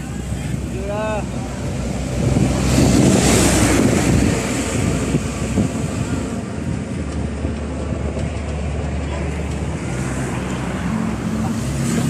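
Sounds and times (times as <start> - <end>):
truck engine running: 0.0 - 12.0
wind buffeting microphone: 0.0 - 12.0.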